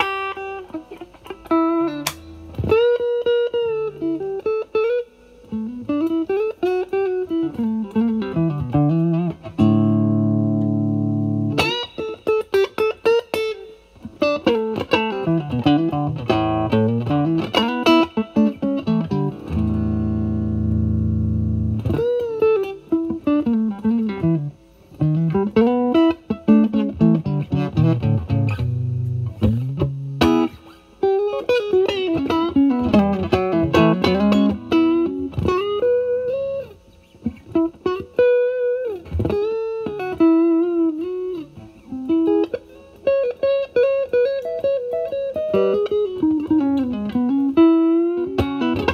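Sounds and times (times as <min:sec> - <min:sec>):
electric guitar chords: 0:00.0 - 0:48.9
overdriven electric guitar lead: 0:00.0 - 0:48.9.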